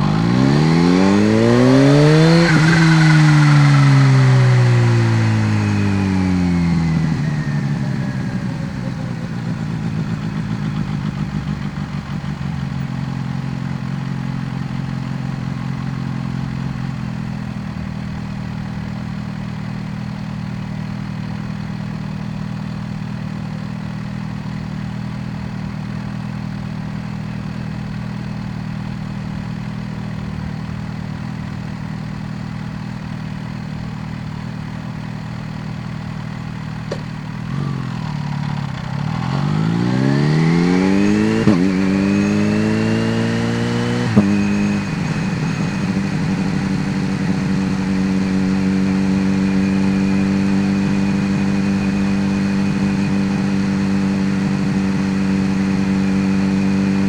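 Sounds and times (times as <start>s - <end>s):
motorcycle engine slowing then idling: 0.0s - 57.0s.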